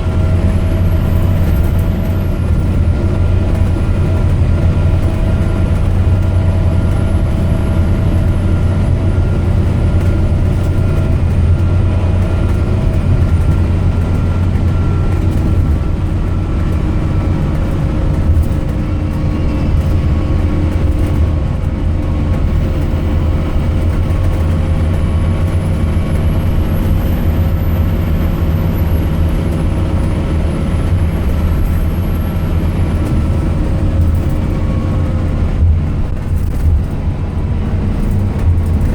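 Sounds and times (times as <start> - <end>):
bus diesel engine rumbling: 0.0 - 38.9
drivetrain whining: 0.0 - 38.9.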